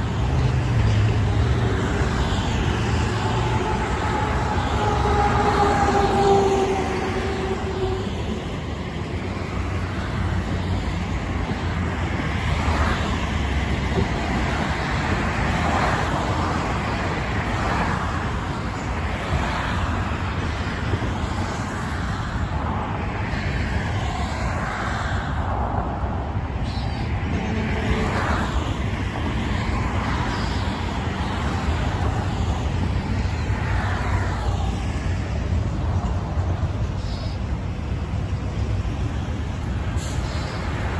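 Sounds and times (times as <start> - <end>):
highway traffic: 0.0 - 40.9.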